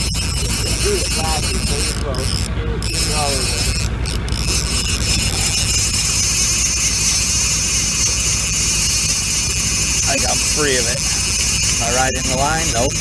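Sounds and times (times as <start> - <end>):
boat motor throbbing: 0.0 - 13.0
constant hiss: 0.0 - 13.0.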